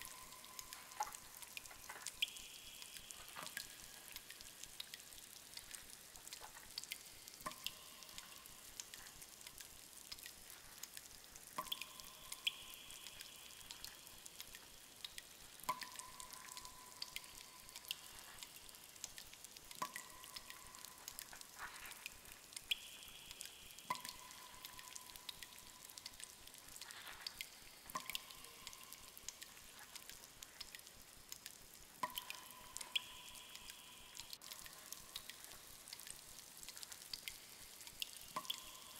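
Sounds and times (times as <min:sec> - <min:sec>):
small drip ticks: 0:00.0 - 0:38.9
water dripping: 0:00.0 - 0:38.9.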